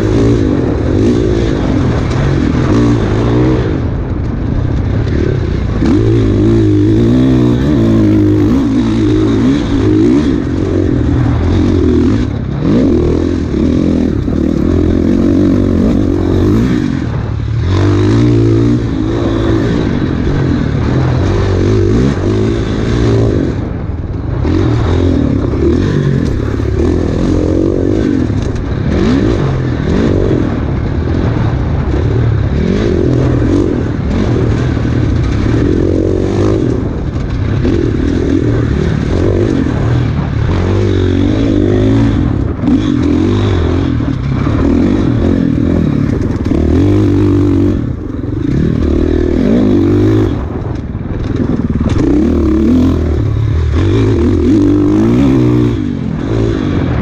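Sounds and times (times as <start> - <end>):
bike rattling: 0.0 - 57.0
dirt bike engine revving: 0.0 - 57.0.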